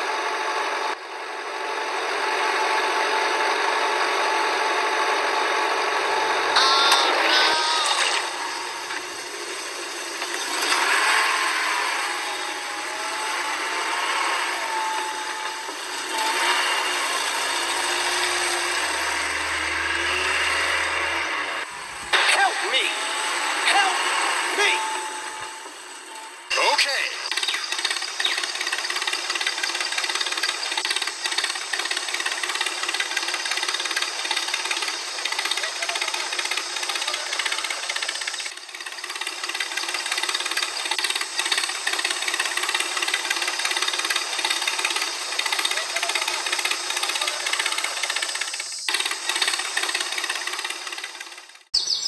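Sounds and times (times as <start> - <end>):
small motor rattling whir: 0.0 - 52.0.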